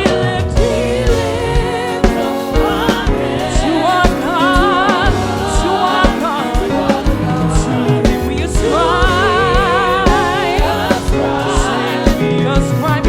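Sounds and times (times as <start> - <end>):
band with steady drum beat: 0.0 - 13.0
singing voices with vibrato: 0.0 - 13.0.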